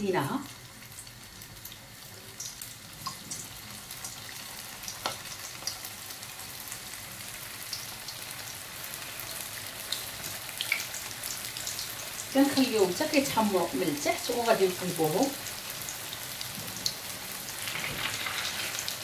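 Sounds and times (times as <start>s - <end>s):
pastries frying in hot oil: 0.0s - 19.0s.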